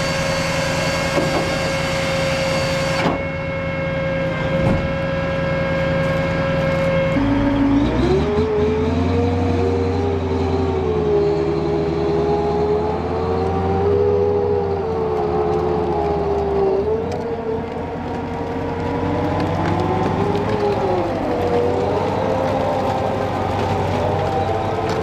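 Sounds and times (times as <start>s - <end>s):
diesel engine rumble with whine: 0.0s - 25.0s.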